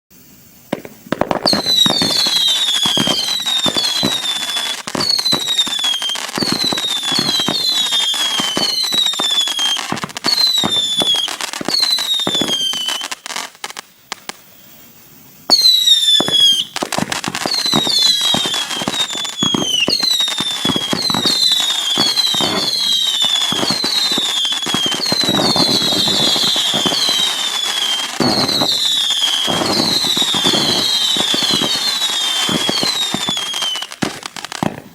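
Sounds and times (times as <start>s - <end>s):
firework crackling pops: 0.1s - 34.9s
firework whistles falling in pitch: 0.1s - 34.9s.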